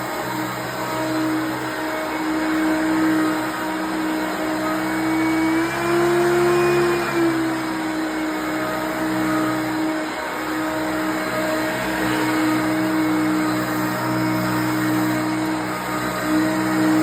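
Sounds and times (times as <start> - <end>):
vacuum cleaner motor whine: 0.0 - 17.0.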